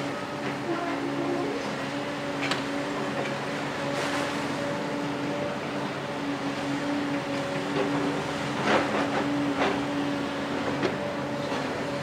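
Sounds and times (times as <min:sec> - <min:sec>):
excavator diesel and hydraulics droning: 0:00.0 - 0:12.0.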